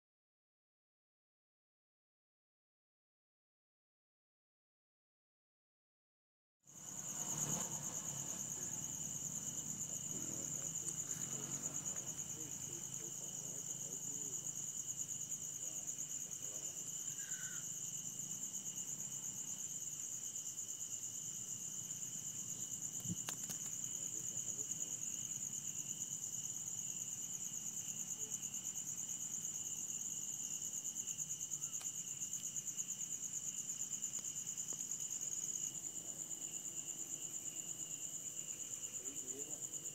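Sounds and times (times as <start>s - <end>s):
high-pitched insect trill: 6.7s - 39.9s
lower insect trill: 6.7s - 39.9s.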